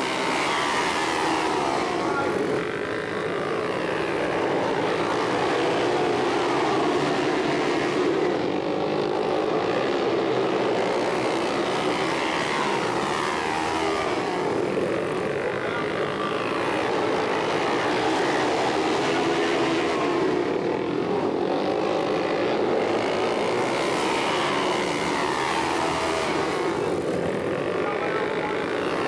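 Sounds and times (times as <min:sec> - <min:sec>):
racing motorcycle engines: 0:00.0 - 0:29.0.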